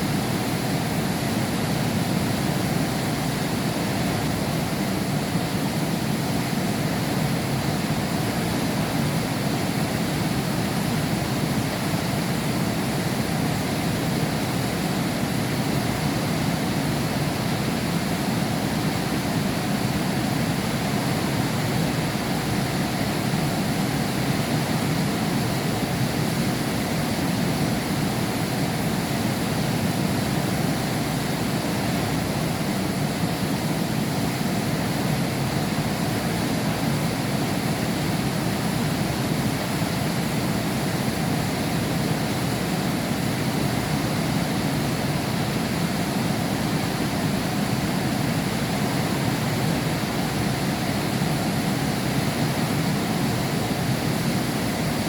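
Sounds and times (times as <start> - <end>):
heavy rain behind a window: 0.0 - 55.0.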